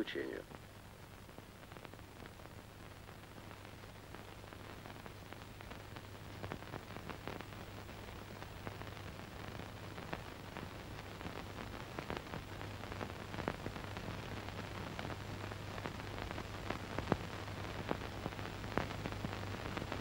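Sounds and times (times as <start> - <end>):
film crackles and pops: 0.0 - 20.0
low hum and hiss: 0.0 - 20.0.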